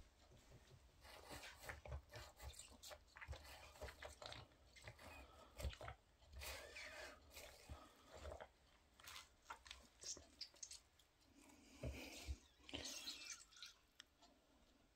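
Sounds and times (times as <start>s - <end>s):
wet squelching of egg in trainers: 1.1s - 14.1s.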